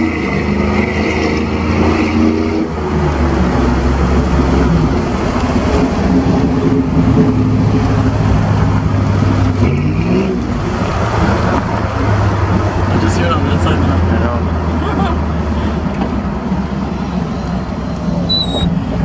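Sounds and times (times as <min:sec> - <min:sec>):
truck engine running and revving: 0:00.0 - 0:19.0.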